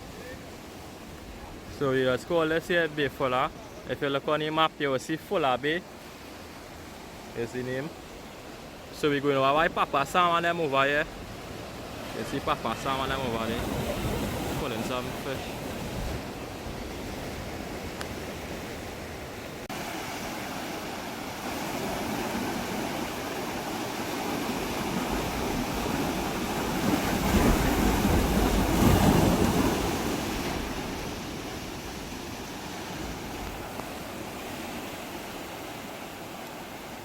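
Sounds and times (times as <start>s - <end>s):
surf washing on rocks: 0.0s - 37.0s.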